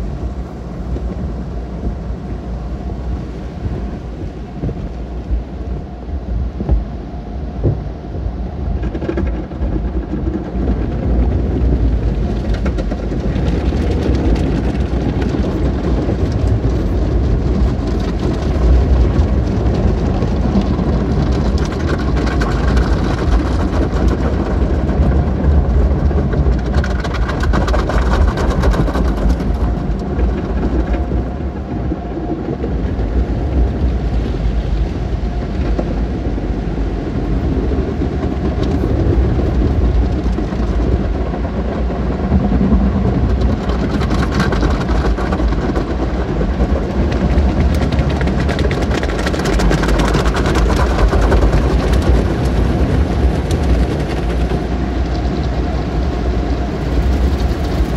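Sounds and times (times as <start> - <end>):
car wash low rumble: 0.0 - 57.9.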